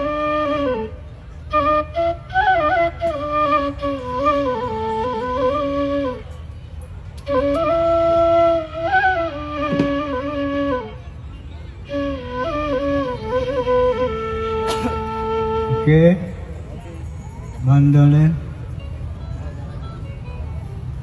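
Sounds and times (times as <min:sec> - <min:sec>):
bamboo flute melody: 0:00.0 - 0:20.8.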